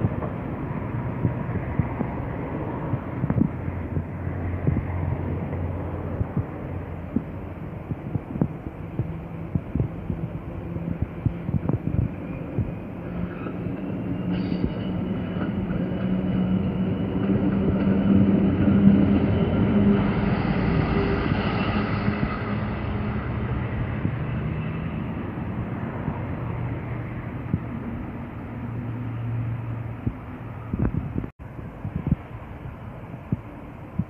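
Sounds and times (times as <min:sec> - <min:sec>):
diesel locomotive engine droning: 0:00.0 - 0:34.0
diesel train passing: 0:00.0 - 0:34.0.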